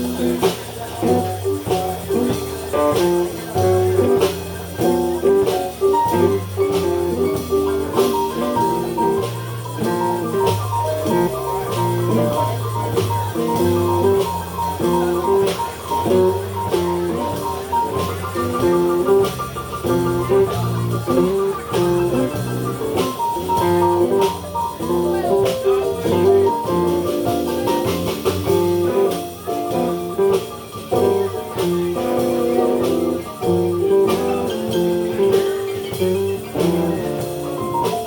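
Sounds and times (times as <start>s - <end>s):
bass and drums: 0.0s - 38.0s.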